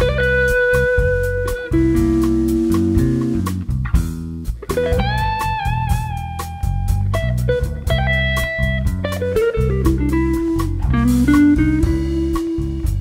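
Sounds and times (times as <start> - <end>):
drum kit with cymbal pulse: 0.0 - 13.0
electric bass: 0.0 - 13.0
electric guitar lead line: 0.0 - 13.0.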